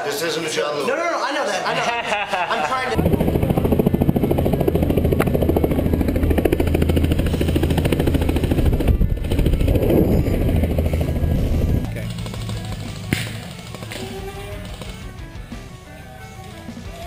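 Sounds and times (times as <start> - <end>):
helicopter rotor chopping: 2.9 - 17.0
low engine drone: 3.0 - 17.0.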